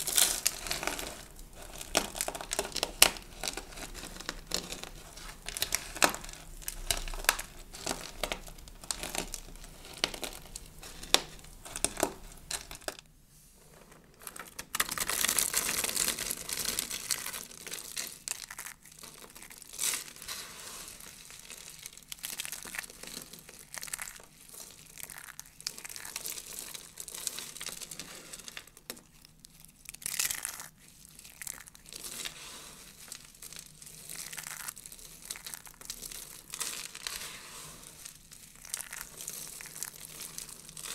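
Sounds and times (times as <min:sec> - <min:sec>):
crushing dry soap flakes: 0:00.0 - 0:13.0, 0:13.6 - 0:40.9.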